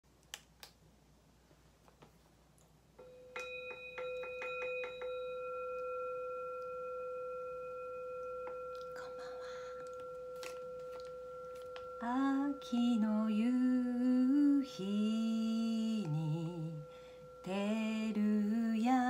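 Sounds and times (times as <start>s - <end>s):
steady bell-like ringing tone: 3.0s - 19.0s.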